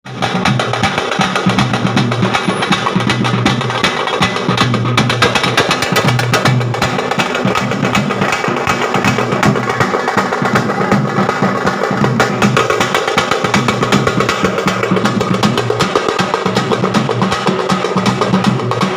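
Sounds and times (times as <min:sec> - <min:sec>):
rapid drum strokes: 0:00.1 - 0:18.9.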